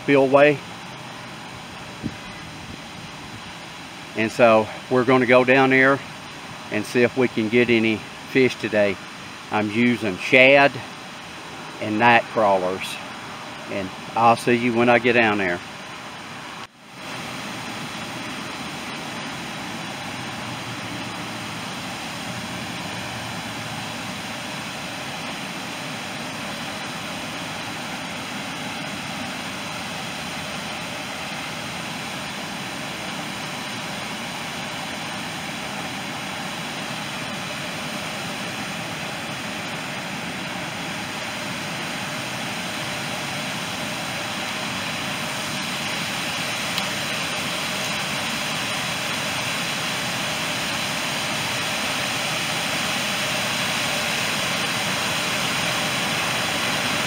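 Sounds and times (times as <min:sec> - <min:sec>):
water rushing over a spillway: 0:00.0 - 0:57.0.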